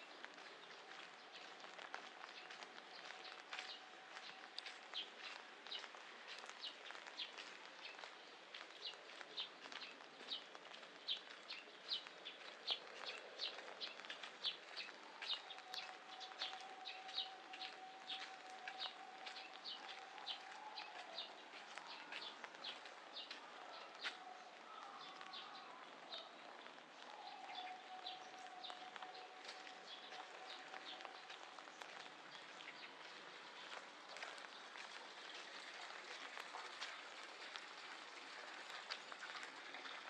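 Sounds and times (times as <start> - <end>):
rain pattering: 0.0 - 40.0.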